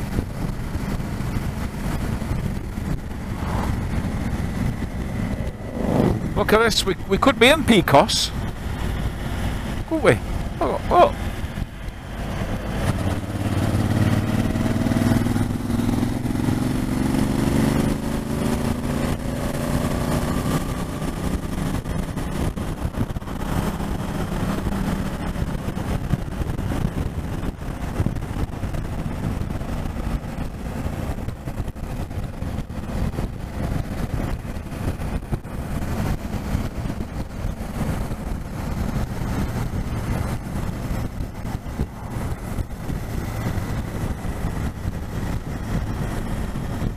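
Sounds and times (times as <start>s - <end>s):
motorcycle engine revving: 0.0s - 7.6s, 8.3s - 46.9s
wind and road noise: 0.0s - 46.9s.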